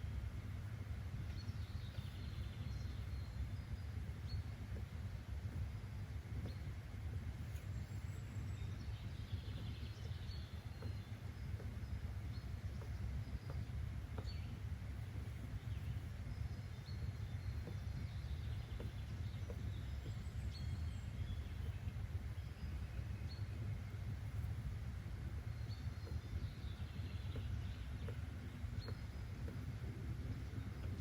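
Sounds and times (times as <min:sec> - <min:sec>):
low rumbling noise: 0:00.0 - 0:31.0
faint bird chirps: 0:01.2 - 0:31.0.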